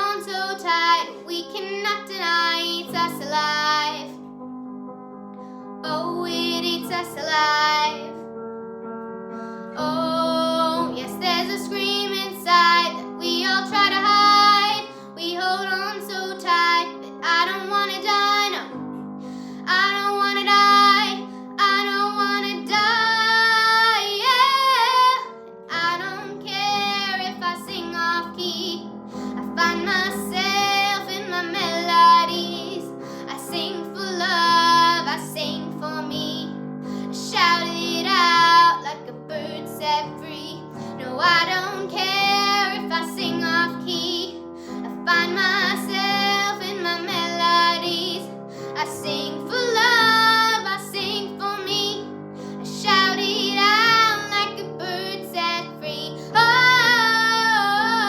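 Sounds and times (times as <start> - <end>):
young woman singing pop ballad: 0.0 - 4.2, 5.8 - 8.2, 9.8 - 58.0.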